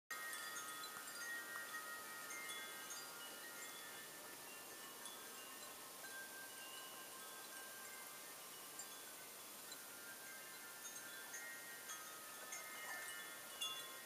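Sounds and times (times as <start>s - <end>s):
soft background hiss: 0.1s - 14.0s
wind chimes ringing: 0.1s - 14.0s.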